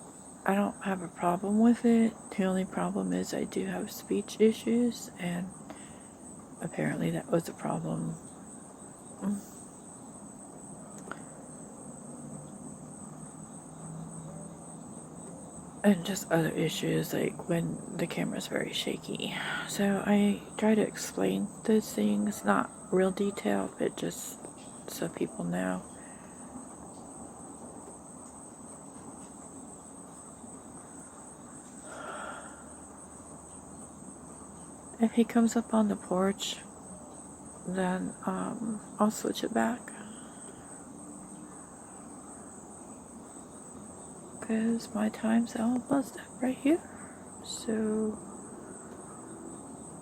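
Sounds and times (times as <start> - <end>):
crickets trilling: 0.0 - 50.0
insects chorus: 0.0 - 50.0.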